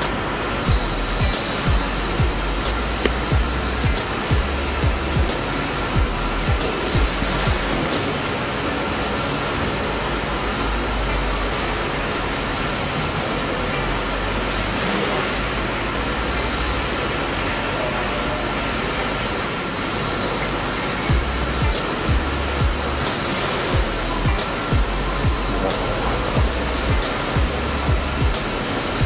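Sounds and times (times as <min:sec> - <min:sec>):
toy quadcopter whirring: 0:00.0 - 0:29.0.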